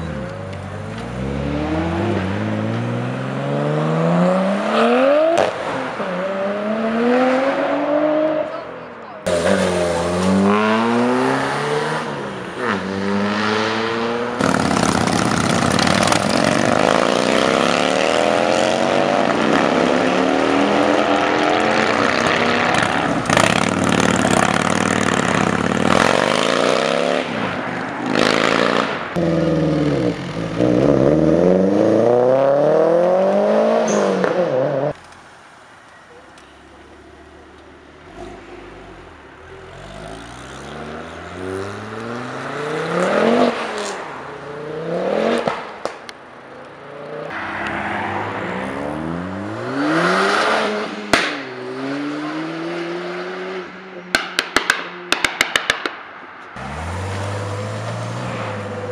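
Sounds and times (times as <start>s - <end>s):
car engines revving: 0.0s - 55.4s, 56.4s - 58.9s.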